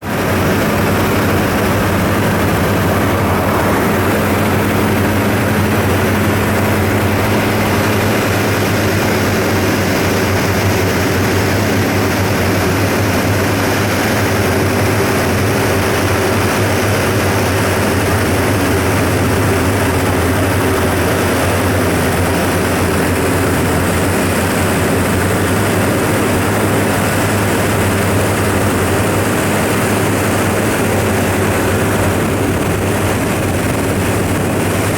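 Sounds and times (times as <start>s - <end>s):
aircraft engines droning: 0.0s - 34.9s.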